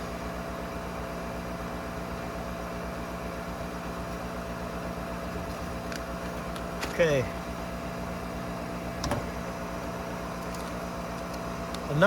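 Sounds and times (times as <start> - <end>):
furnace inducer motor humming: 0.0 - 12.0.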